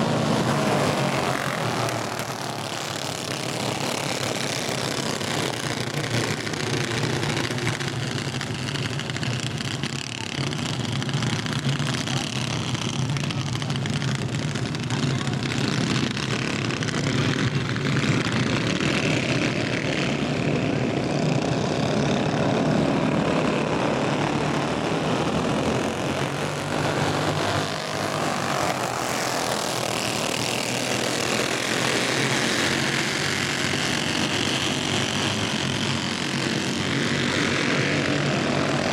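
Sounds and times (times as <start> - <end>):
kart engines buzzing: 0.0 - 38.9.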